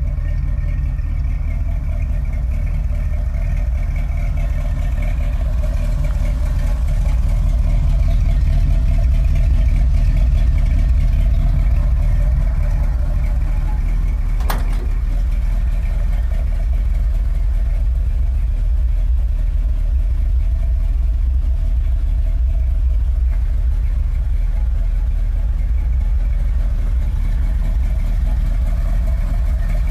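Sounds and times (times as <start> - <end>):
truck engine idling: 0.0 - 29.9.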